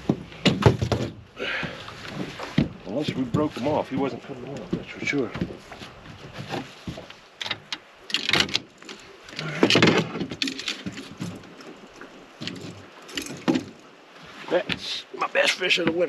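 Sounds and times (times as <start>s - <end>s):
fishing gear clunking and rattling: 0.0s - 14.9s, 15.5s - 16.0s.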